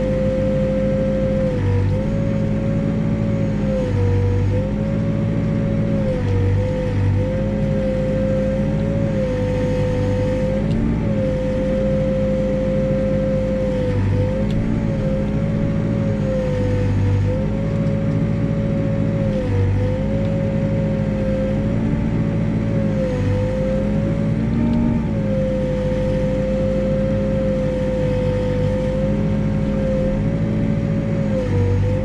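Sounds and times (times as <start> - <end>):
backhoe diesel engine under load: 0.0 - 32.0.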